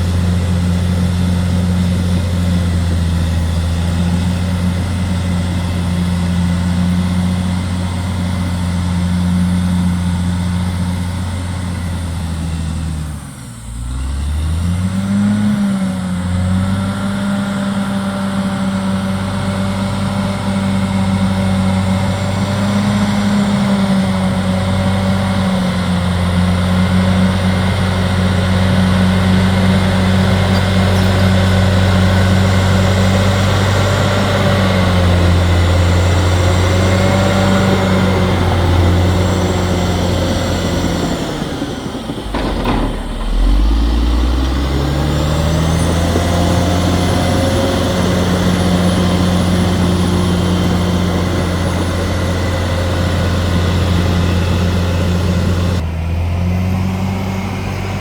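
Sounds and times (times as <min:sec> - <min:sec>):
bulldozer diesel engine revving: 0:00.0 - 0:58.0.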